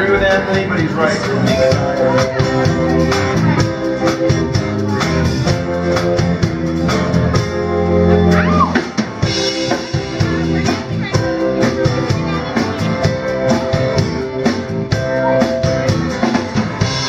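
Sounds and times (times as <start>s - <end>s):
drum kit: 0.0s - 17.0s.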